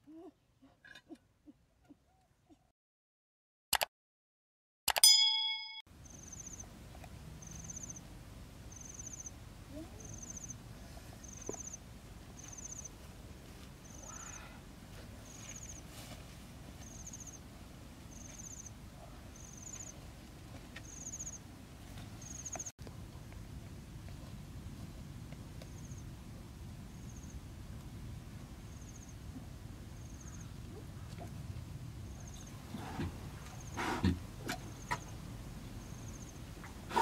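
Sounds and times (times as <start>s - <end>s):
low outdoor rumble: 5.9s - 37.0s.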